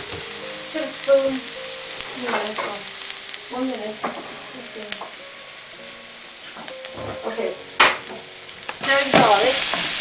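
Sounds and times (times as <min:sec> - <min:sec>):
garlic sizzling in hot oil: 0:00.0 - 0:10.0.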